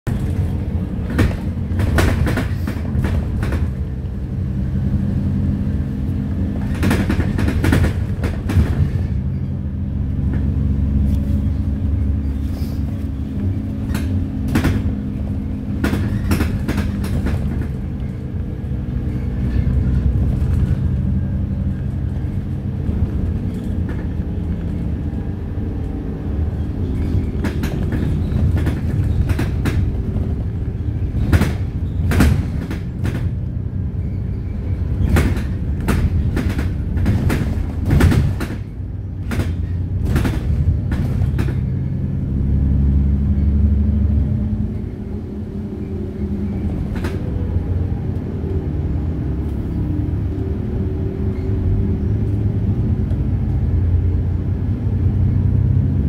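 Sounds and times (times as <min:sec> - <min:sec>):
bus engine drone: 0:00.0 - 0:56.0
rattling of bus body: 0:00.0 - 0:56.0.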